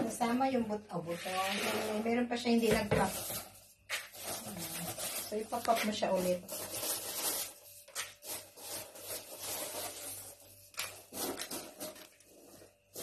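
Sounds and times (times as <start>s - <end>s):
popcorn rustling in plastic bowl: 0.0s - 13.0s.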